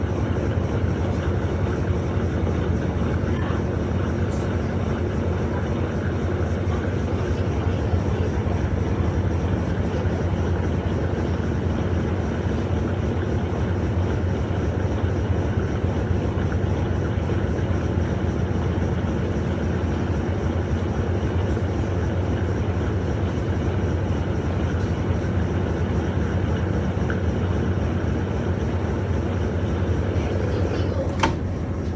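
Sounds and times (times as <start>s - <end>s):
washing machine low drone: 0.0s - 31.9s.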